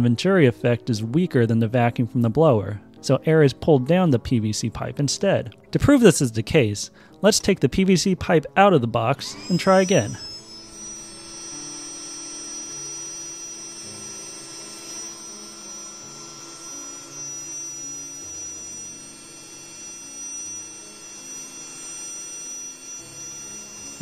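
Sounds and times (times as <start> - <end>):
electric blower whining: 0.0 - 24.0.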